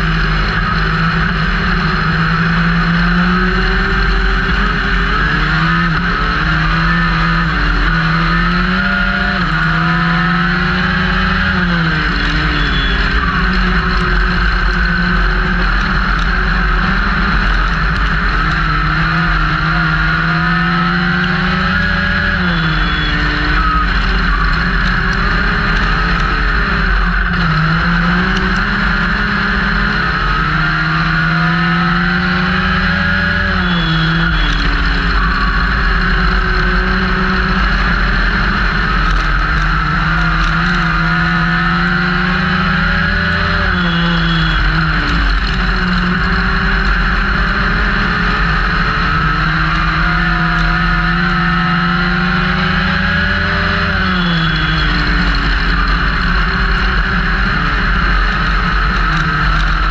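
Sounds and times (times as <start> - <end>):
race car engine revving: 0.0 - 59.9
road noise: 0.0 - 59.9.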